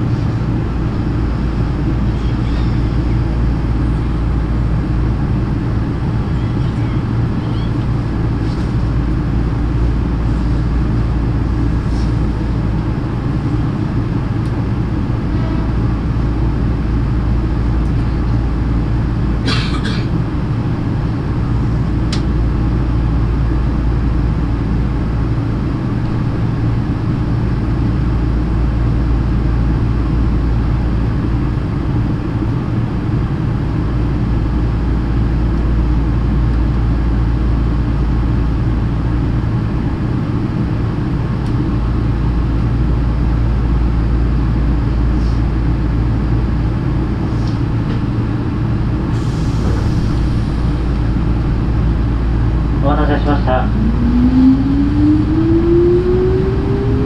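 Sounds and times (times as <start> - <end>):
electric train humming: 0.0 - 57.0.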